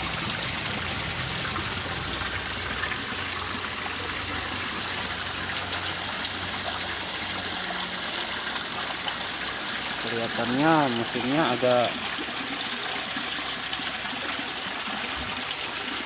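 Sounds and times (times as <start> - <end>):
water splashing into pond: 0.0 - 16.0.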